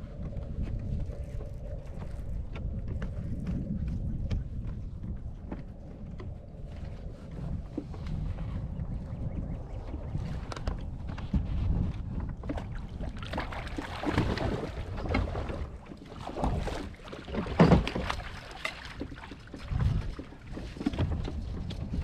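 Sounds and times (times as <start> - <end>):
water sounds: 0.0 - 22.0
wind rumbling on microphone: 0.0 - 22.0.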